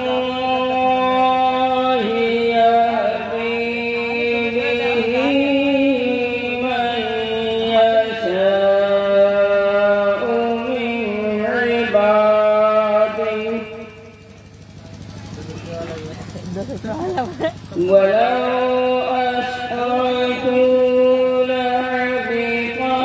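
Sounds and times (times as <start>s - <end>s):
man singing into a microphone: 0.0s - 14.2s, 17.8s - 23.0s.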